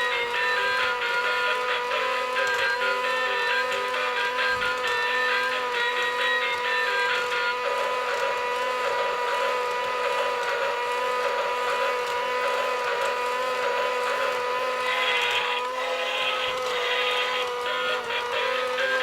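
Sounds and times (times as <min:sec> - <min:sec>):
toy train motor whining: 0:00.0 - 0:19.0.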